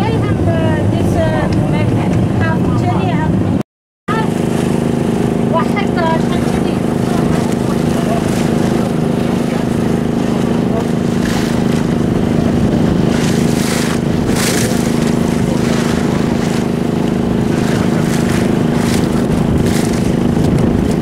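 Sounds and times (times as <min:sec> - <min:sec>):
boat engine droning: 0:00.0 - 0:21.0
water splashing against hull: 0:04.1 - 0:21.0.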